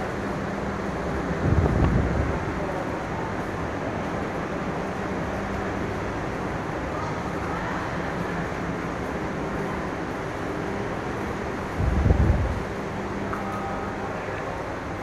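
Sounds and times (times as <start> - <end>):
faint indistinct voices: 0.0 - 15.0
station hum and rush: 0.0 - 15.0.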